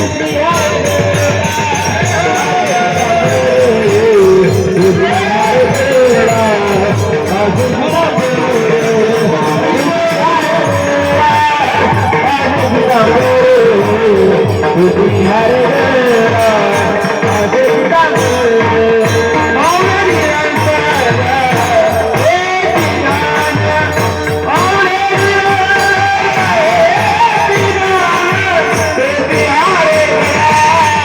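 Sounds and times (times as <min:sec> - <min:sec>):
steady drum beat: 0:00.0 - 0:31.0.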